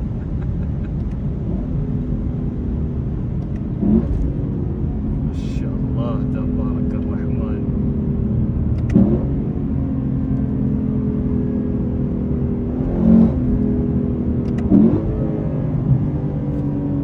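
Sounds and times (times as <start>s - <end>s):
car engine running: 0.0s - 17.0s
low road rumble: 0.0s - 17.0s.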